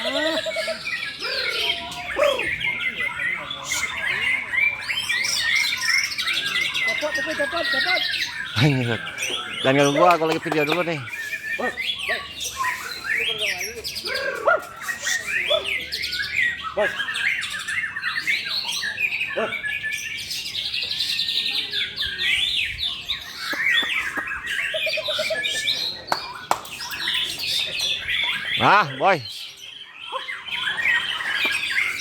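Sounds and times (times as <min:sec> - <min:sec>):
songbirds singing: 0:00.0 - 0:32.0.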